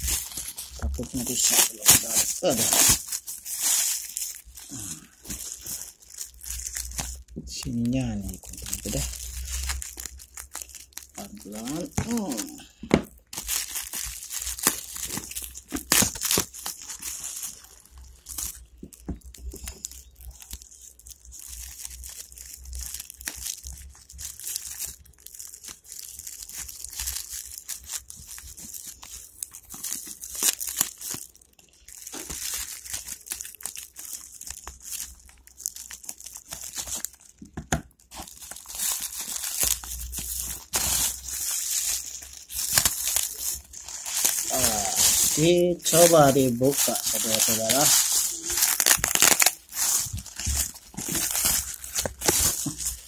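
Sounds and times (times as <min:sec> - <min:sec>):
plastic wrapping crinkling and tearing: 0:00.0 - 0:53.0.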